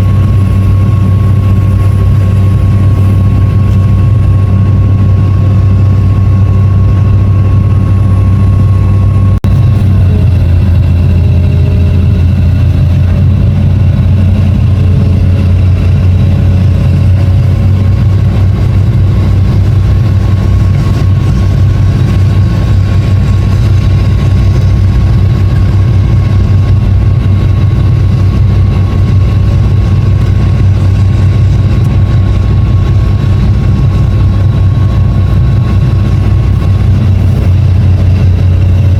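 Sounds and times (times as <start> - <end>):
excavator diesel engine drone: 0.0 - 38.9
high whine: 0.0 - 38.9.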